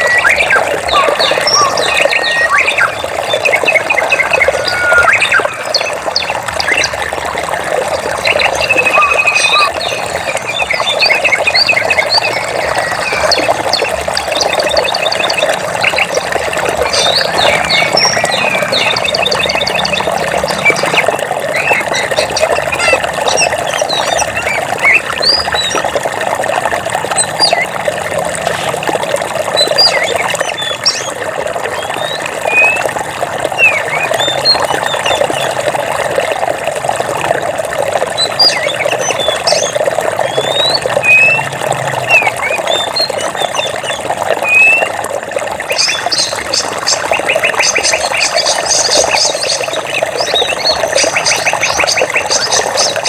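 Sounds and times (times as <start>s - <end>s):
birds chirping and calling: 0.0s - 26.0s, 27.0s - 27.8s, 29.4s - 35.8s, 38.0s - 44.9s, 45.7s - 53.0s
flowing water: 0.0s - 53.0s.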